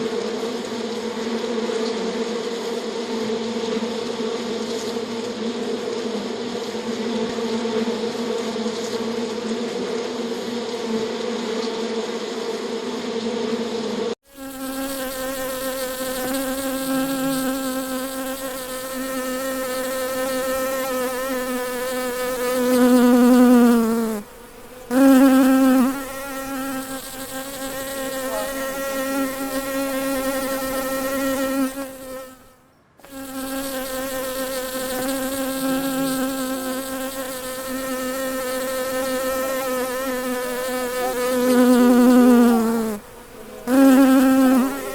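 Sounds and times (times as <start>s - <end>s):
bee buzzing: 0.1s - 44.9s.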